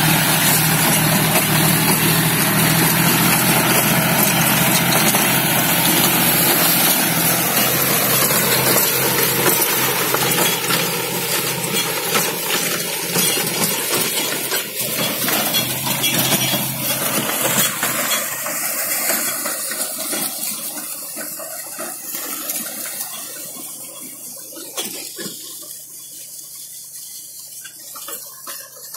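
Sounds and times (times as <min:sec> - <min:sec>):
rotavator churning soil: 0:00.0 - 0:28.9
tractor engine: 0:00.0 - 0:28.9.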